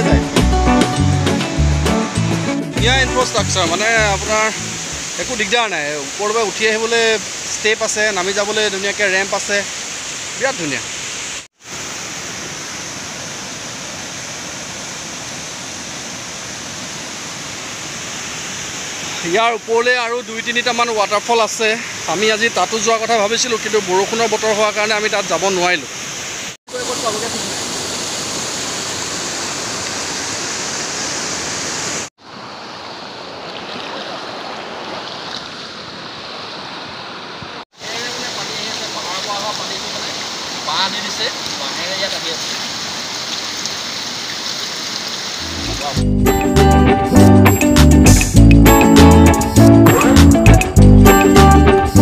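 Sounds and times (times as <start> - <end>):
stream rushing over rocks: 2.8 - 46.0.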